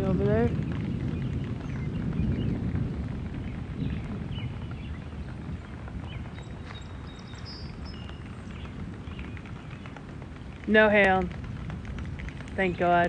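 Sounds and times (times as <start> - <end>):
distant thunder rumbling: 0.0 - 13.0.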